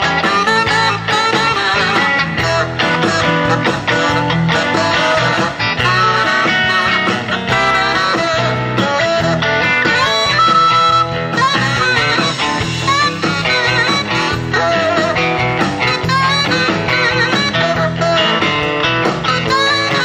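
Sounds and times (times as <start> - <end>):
lead guitar bending notes: 0.0 - 20.0
rock band playing: 0.0 - 20.0.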